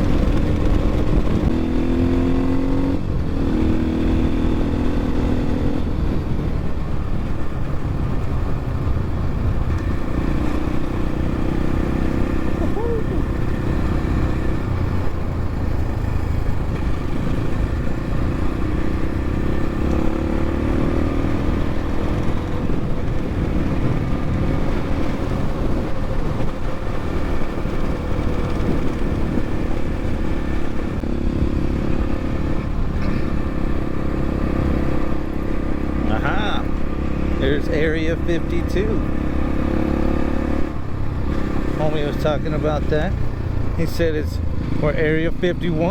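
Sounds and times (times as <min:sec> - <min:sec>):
wind noise: 0:00.0 - 0:38.2
dirt bike engine running: 0:00.0 - 0:45.9.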